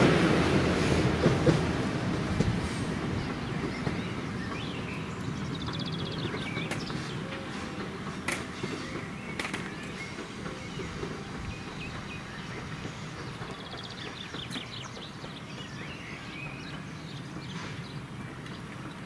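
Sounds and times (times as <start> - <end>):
small birds chirping: 1.2 - 19.0.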